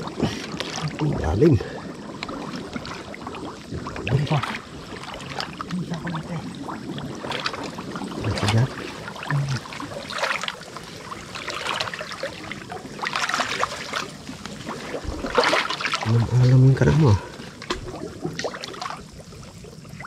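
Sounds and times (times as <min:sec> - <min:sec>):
water splashing from wading: 0:00.0 - 0:20.0.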